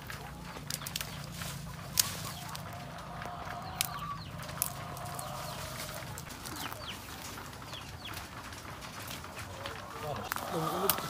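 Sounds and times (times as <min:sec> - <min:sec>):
chickens clucking: 0:00.0 - 0:11.0
drawn-out hen call: 0:00.0 - 0:11.0.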